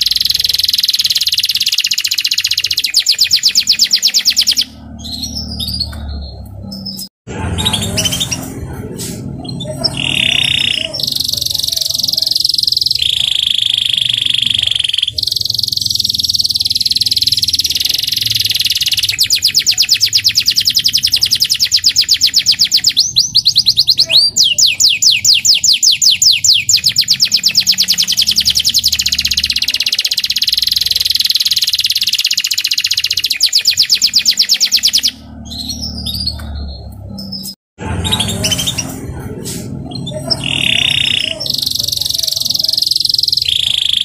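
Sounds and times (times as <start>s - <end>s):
canary singing fast trills: 0.0s - 8.6s, 9.4s - 39.0s, 39.8s - 44.0s.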